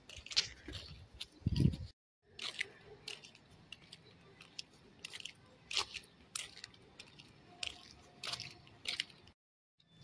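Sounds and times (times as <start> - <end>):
footsteps on brick paving: 0.0 - 9.4.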